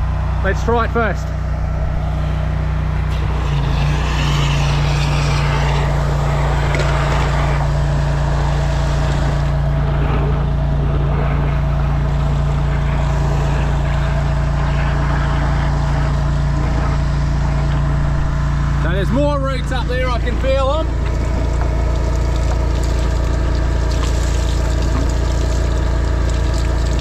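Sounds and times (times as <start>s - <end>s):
petrol engine running: 0.0s - 27.0s
water jet hissing: 2.1s - 19.0s, 19.6s - 27.0s.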